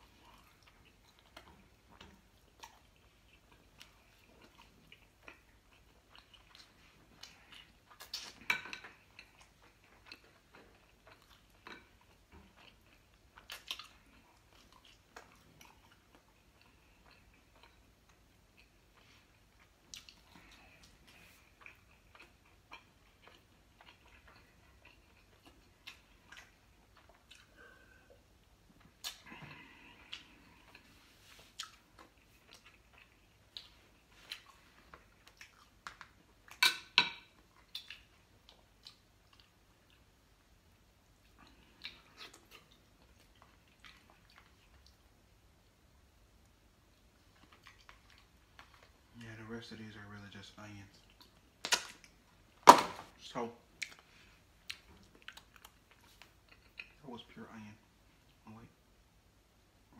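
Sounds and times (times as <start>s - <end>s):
person chewing food: 0.0s - 57.2s.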